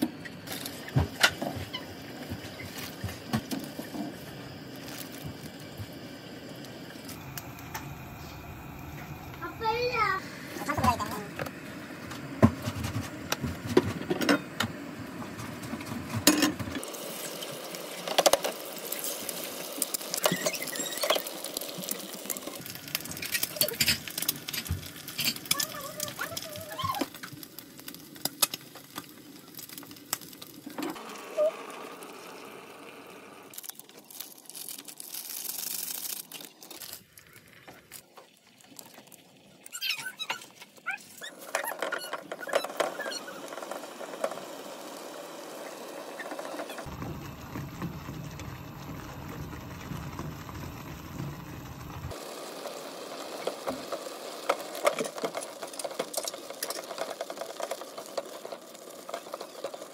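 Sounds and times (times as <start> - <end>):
eggs sizzling in frying pan: 0.0 - 59.9.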